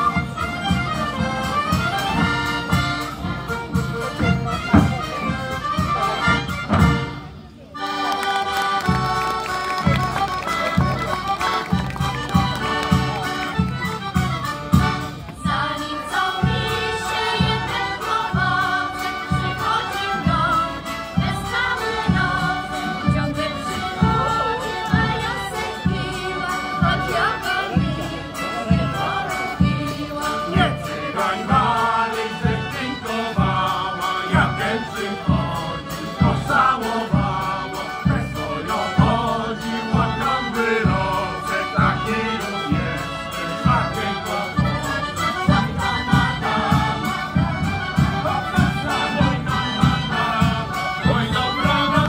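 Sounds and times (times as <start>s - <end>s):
chorus singing folk song: 0.0s - 52.0s
folk band accompaniment: 0.0s - 52.0s.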